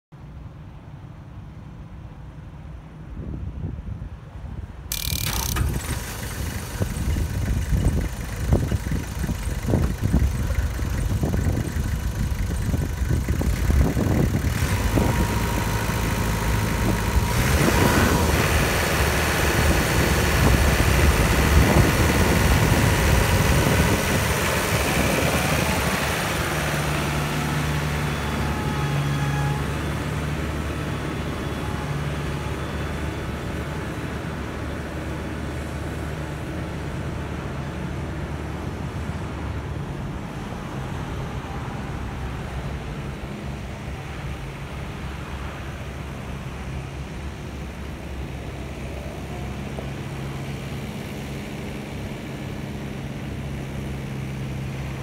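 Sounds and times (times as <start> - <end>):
diesel tractor engine: 4.9 - 55.0.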